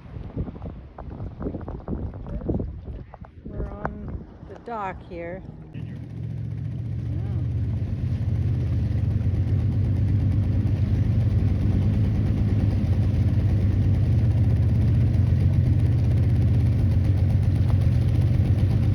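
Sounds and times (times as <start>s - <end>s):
engine running at low speed: 0.0s - 18.9s.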